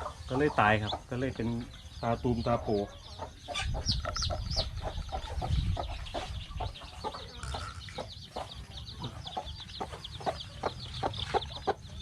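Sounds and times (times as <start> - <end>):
chickens clucking: 0.0 - 12.0
high peeping calls: 0.0 - 12.0.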